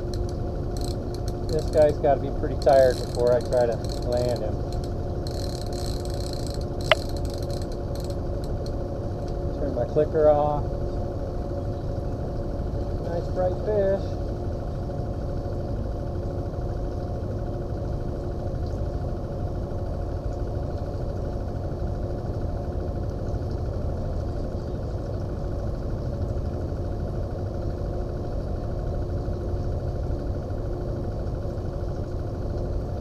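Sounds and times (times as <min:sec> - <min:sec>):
outboard motor idling: 0:00.0 - 0:33.0.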